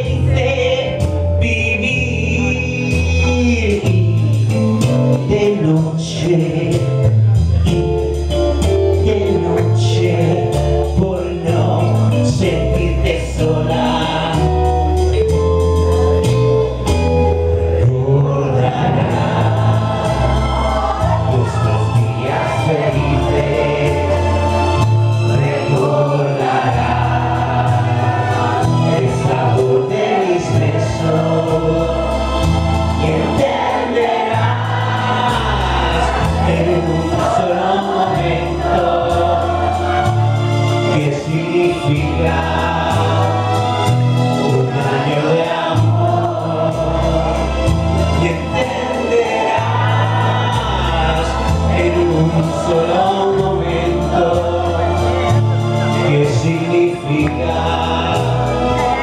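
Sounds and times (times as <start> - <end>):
people singing: 0.0 - 4.1, 8.9 - 15.0, 17.8 - 59.0
stepping bass line: 0.0 - 59.0.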